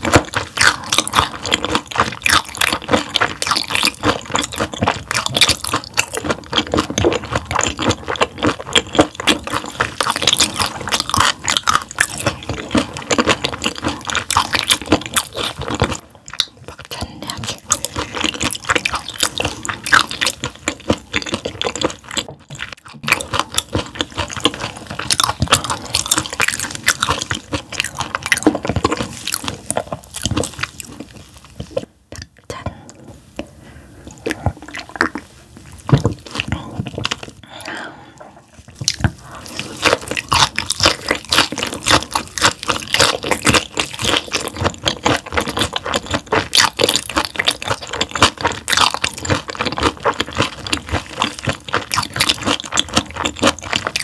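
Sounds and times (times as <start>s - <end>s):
crunchy chewing: 0.0s - 32.5s, 33.4s - 54.0s.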